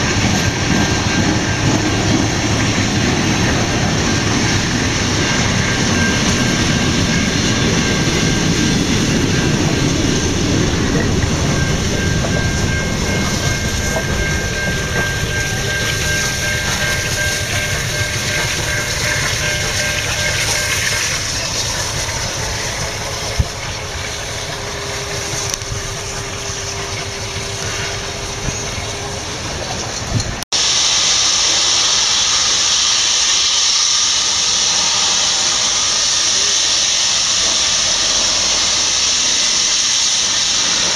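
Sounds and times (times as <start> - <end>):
steam locomotive hissing: 0.0 - 40.9
train rumble and wheel clatter: 0.0 - 40.9.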